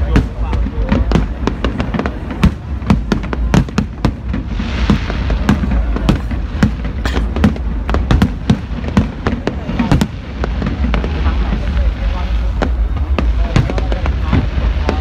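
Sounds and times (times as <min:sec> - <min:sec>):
fireworks bangs and pops: 0:00.0 - 0:15.0
hissing crackle: 0:00.0 - 0:15.0.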